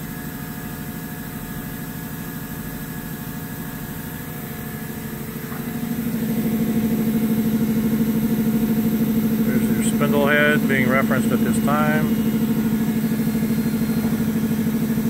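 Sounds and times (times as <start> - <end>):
machining center hum: 2.0 - 15.0.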